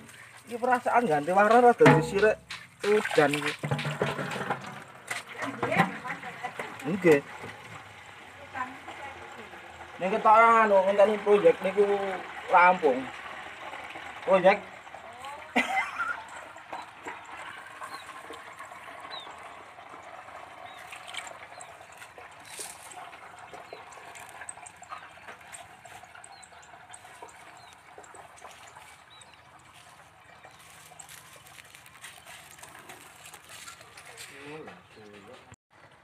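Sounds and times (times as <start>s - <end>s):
hose water trickling into bottle: 0.0s - 34.9s.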